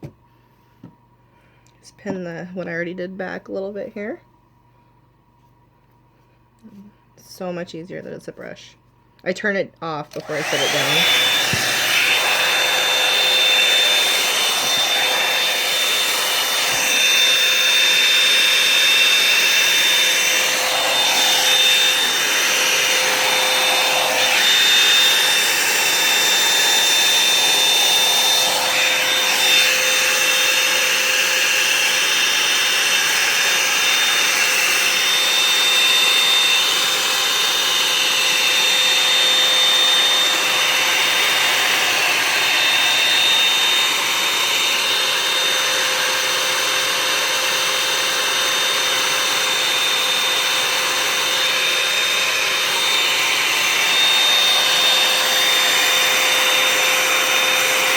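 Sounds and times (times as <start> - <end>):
hair dryer blowing with motor whine: 10.1 - 57.9.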